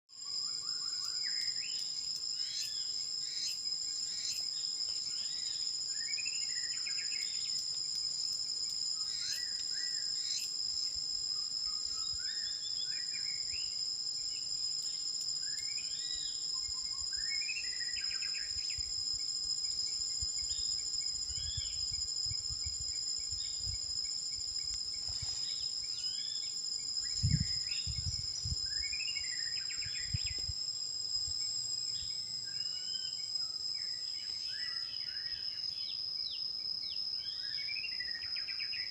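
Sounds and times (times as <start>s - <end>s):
high-pitched insect drone: 0.1s - 38.9s.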